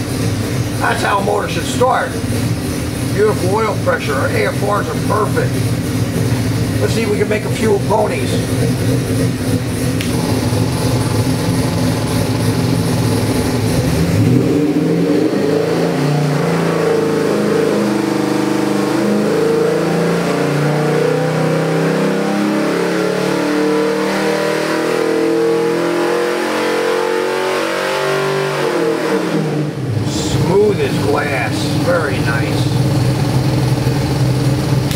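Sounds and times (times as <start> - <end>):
engine revving under load: 0.0 - 34.9.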